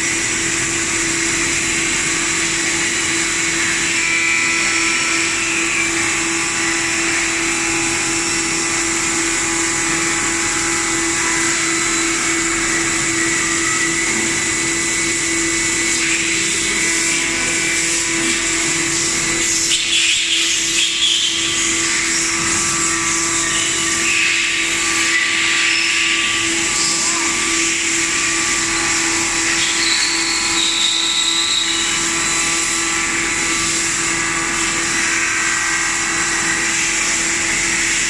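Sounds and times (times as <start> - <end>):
high whine: 0.0 - 38.0
machining center humming: 0.0 - 38.0
rough scratchy machining: 2.3 - 38.0.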